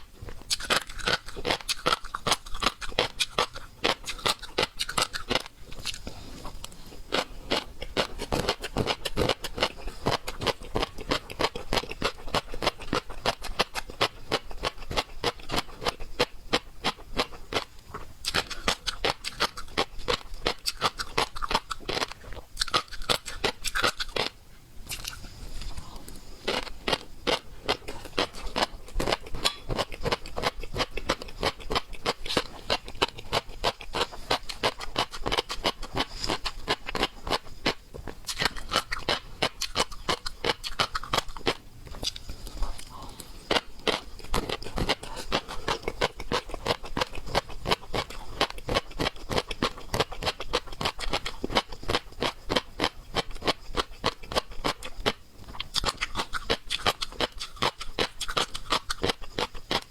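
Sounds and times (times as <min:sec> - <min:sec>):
seafood chewing and crunching: 0:00.0 - 0:59.9.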